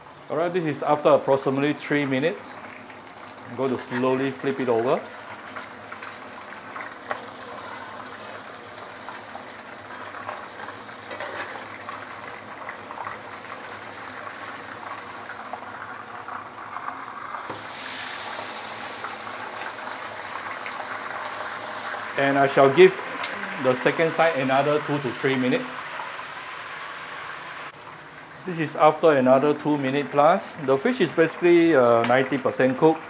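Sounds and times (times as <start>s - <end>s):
fish sizzling in hot oil: 1.8s - 33.0s.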